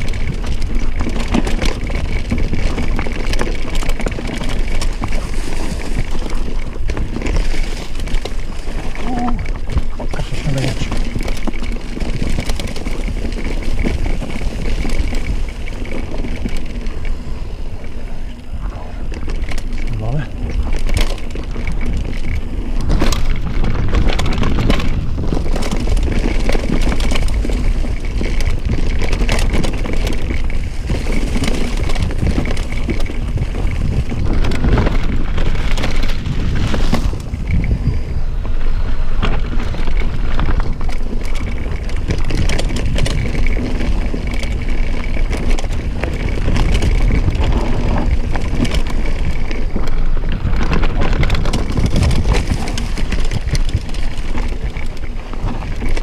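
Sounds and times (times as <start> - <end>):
bike rattling: 0.0 - 56.0
bike tyres on stones: 0.0 - 56.0.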